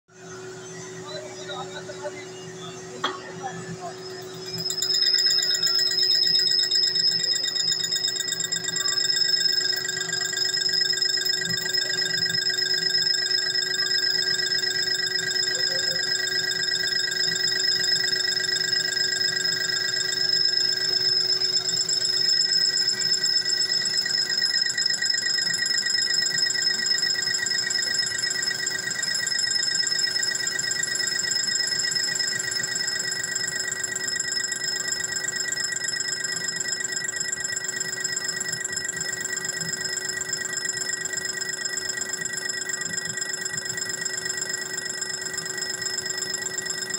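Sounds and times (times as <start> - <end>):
metal lathe ringing whine: 0.1 - 46.9.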